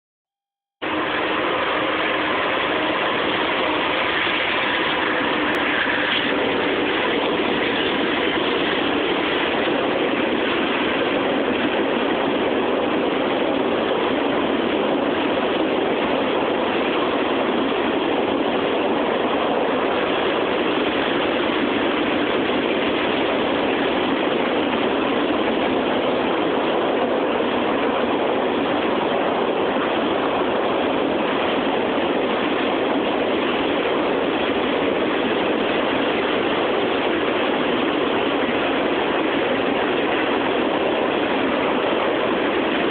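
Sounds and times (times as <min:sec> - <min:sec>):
freight train rolling past: 0:00.8 - 0:42.9.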